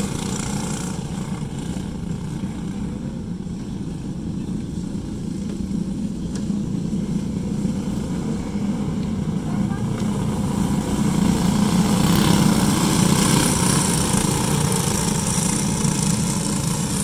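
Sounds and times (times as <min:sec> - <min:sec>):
racing kart engines droning: 0:00.0 - 0:17.0.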